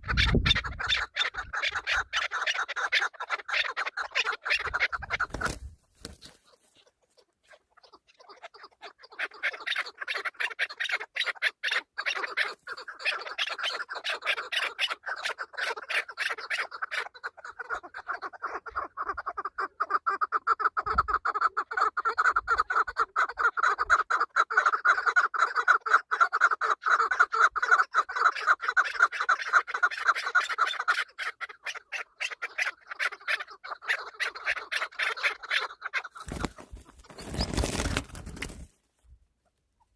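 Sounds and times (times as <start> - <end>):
partridge clucking calls: 0.0 - 38.7.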